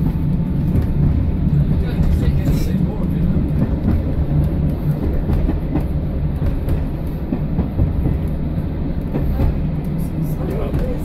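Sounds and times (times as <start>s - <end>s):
train diesel engine rumble: 0.0s - 11.0s
train wheels on rails: 0.0s - 11.0s.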